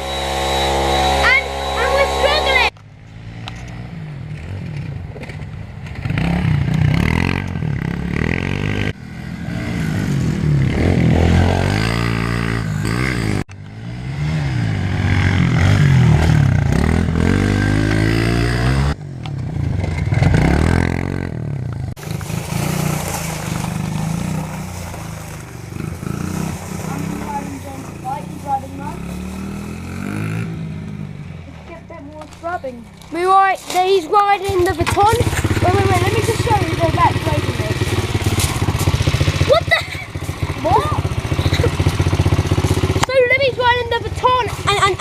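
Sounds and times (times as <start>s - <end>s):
motorbike engine revving: 0.0s - 45.0s.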